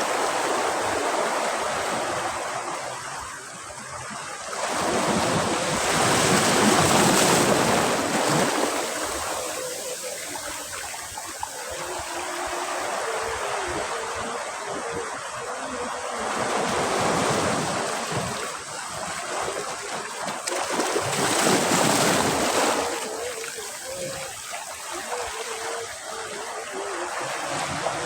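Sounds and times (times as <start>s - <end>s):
sea waves breaking on beach: 0.0s - 28.0s.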